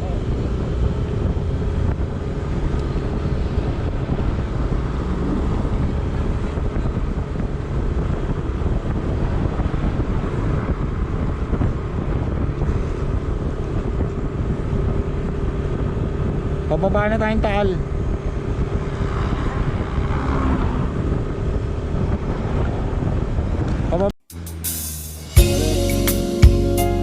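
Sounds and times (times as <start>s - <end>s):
wind buffeting microphone: 0.0s - 24.1s
vehicle road noise rumble: 0.0s - 27.0s.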